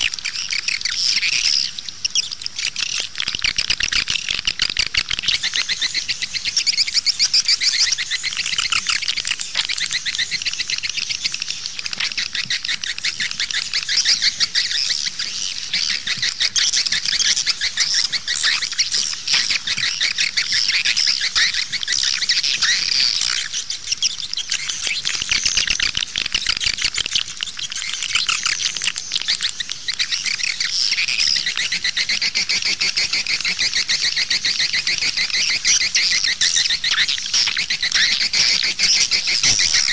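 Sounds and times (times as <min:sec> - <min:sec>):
swiftlet chirps twittering: 0:05.0 - 0:39.9.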